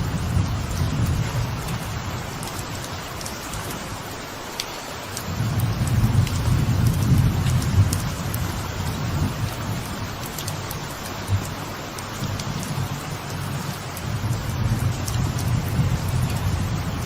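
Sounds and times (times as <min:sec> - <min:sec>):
low thunder rumble: 0:00.0 - 0:04.0, 0:05.3 - 0:17.0
light rain falling: 0:00.0 - 0:17.0
water drips ticking: 0:00.0 - 0:17.0.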